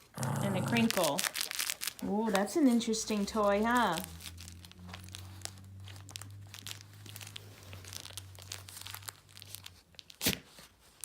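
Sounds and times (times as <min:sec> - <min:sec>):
dog chewing toy: 0:00.0 - 0:10.7
crinkling toy rustles: 0:00.0 - 0:11.0.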